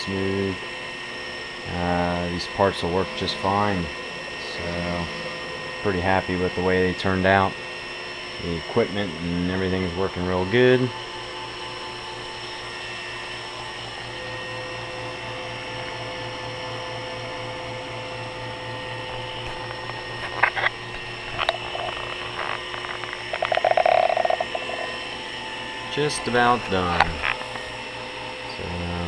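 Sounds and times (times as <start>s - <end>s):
buzzing rattle: 0.0s - 29.0s
mill spindle whining: 0.0s - 29.0s.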